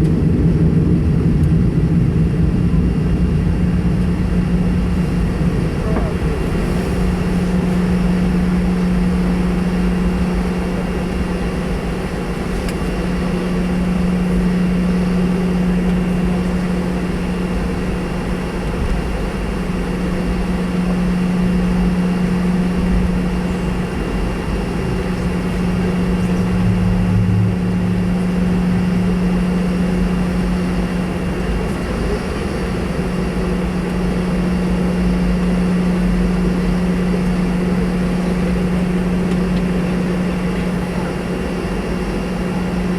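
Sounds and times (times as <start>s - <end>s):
airflow roar: 0.0s - 42.9s
jet engine drone in cabin: 0.0s - 42.9s.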